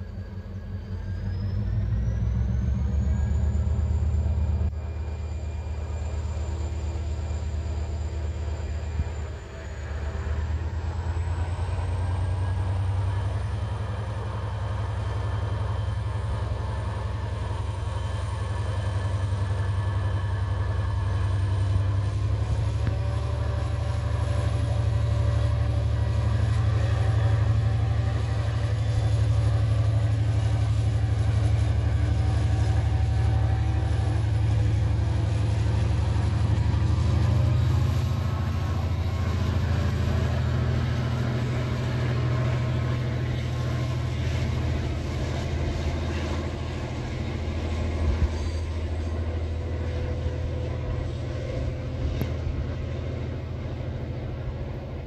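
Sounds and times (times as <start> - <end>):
diesel locomotive engine rumbling: 0.0 - 55.0.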